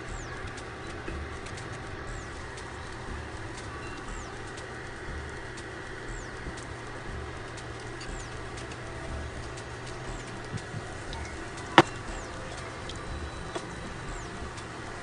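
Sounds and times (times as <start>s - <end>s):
bird chirping: 0.0s - 15.0s
food frying in oil: 0.0s - 15.0s.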